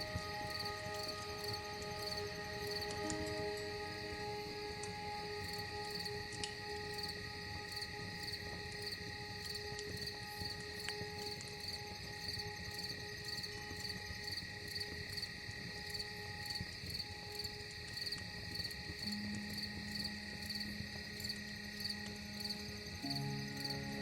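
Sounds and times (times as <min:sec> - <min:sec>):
ambient music drones: 0:00.0 - 0:24.0
crickets chirping: 0:00.0 - 0:24.0.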